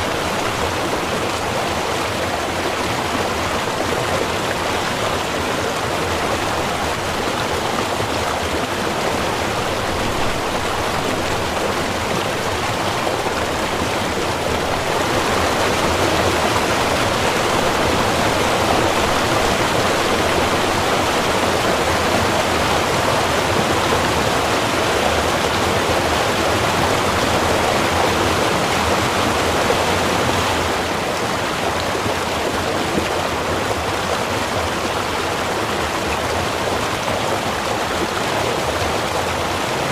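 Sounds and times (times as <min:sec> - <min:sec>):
small river running: 0:00.0 - 0:39.9.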